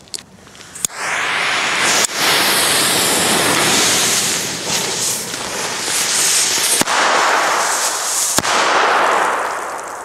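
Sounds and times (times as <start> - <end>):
firecracker fuses hissing: 0.4 - 10.0
firecracker bangs: 0.9 - 10.0.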